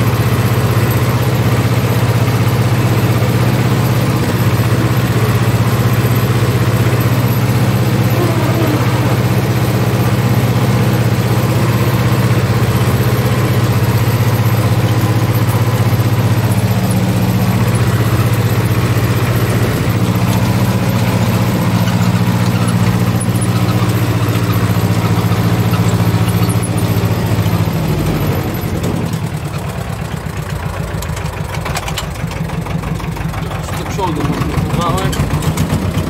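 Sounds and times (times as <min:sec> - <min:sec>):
diesel tractor engine running: 0:00.0 - 0:36.0.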